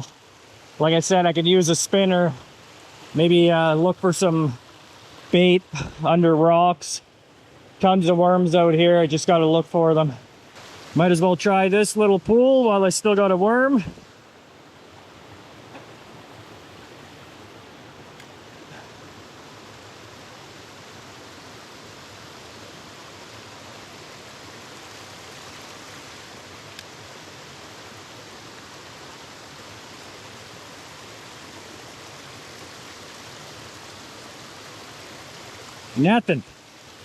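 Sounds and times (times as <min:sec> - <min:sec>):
river water running over rocks: 0:00.0 - 0:37.0.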